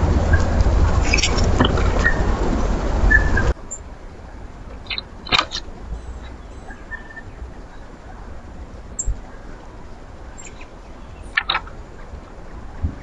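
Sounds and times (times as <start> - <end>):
faint outdoor background: 0.0 - 13.0
bird call: 0.3 - 13.0.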